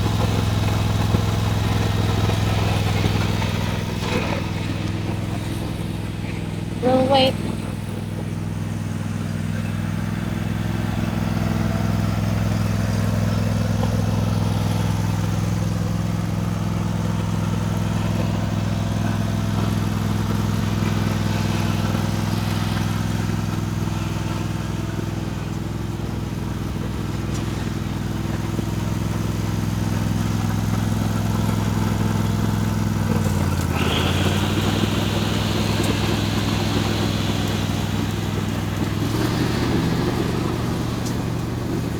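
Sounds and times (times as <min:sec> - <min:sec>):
riding mower engine running: 0:00.0 - 0:41.9.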